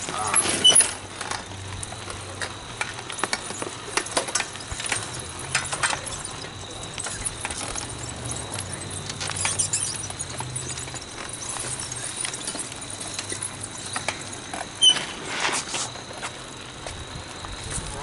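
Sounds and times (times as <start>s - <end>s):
clicks and rattles of rolling parts: 0.0s - 18.0s.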